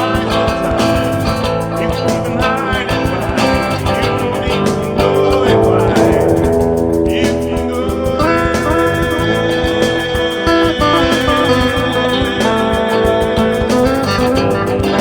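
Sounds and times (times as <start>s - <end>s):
guitar: 0.0s - 15.0s
steady drum beat: 0.0s - 15.0s.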